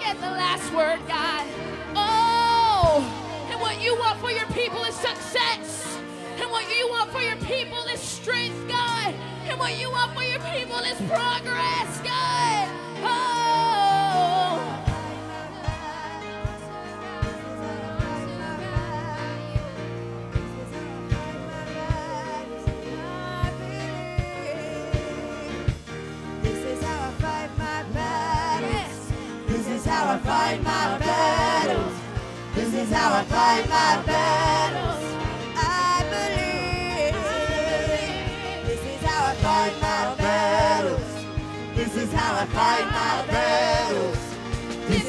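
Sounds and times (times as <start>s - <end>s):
woman singing into a microphone: 0.0s - 25.8s, 26.4s - 41.2s
keyboard chords: 0.0s - 45.0s.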